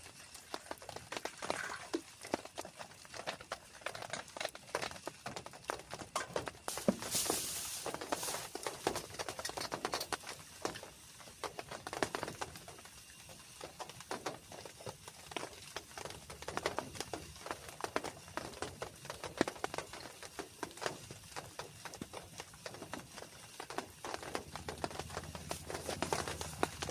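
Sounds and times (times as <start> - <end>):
raindrops tapping: 0.0 - 26.9.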